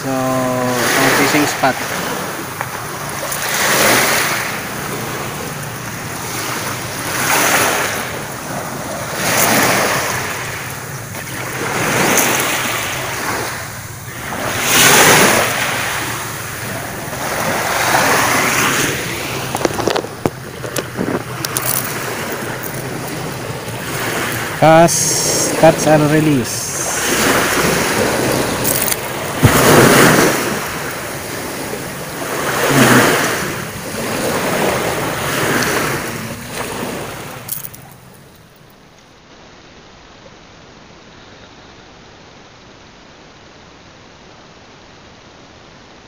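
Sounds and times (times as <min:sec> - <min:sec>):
waves washing on pebble beach: 0:00.0 - 0:38.2.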